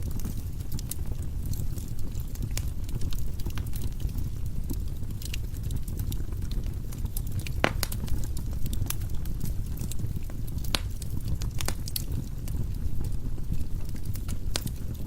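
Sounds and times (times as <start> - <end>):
burning logs crackling and popping: 0.0 - 15.0
low flame rumble: 0.0 - 15.0.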